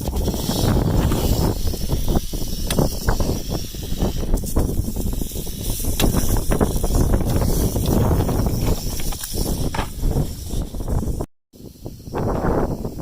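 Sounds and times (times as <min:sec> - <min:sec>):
rattlesnake rattling: 0:00.0 - 0:13.0.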